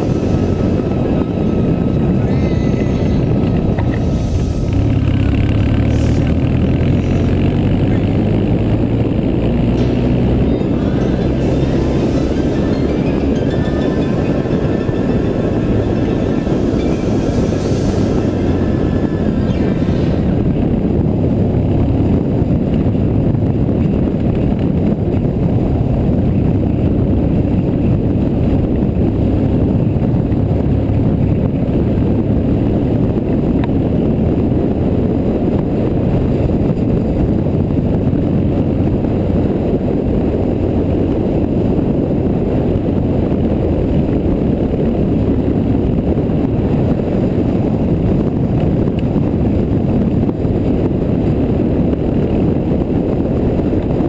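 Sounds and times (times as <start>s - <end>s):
motorcycle engine rumble: 0.0s - 54.0s
wind buffeting microphone: 0.0s - 54.0s.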